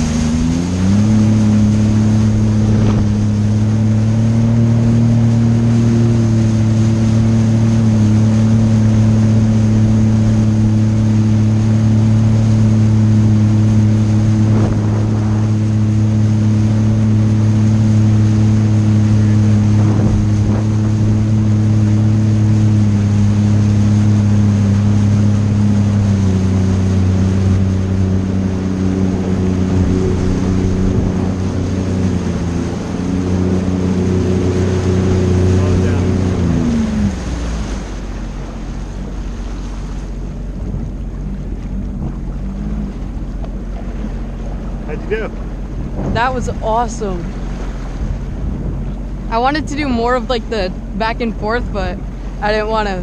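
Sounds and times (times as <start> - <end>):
jet ski engine: 0.0 - 53.0
water rushing beneath hull: 0.0 - 53.0.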